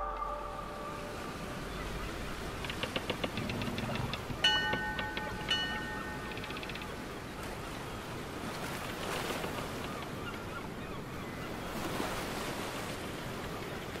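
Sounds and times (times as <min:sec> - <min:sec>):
ocean waves surf: 0:00.0 - 0:14.0.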